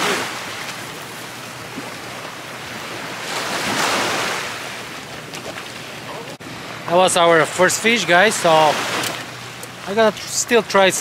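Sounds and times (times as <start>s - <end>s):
wave breaking: 0.0s - 10.2s
ocean surf washing onto beach: 0.0s - 11.0s.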